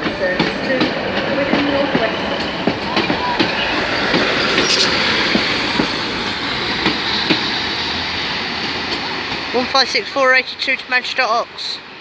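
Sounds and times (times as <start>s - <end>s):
wheels clicking over rail joints: 0.0s - 10.8s
train running rumble: 0.0s - 12.0s.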